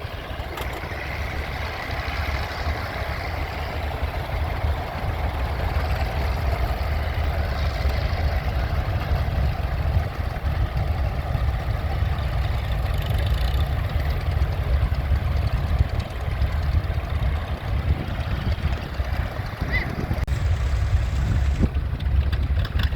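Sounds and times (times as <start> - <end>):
engine low rumble: 0.0 - 22.9.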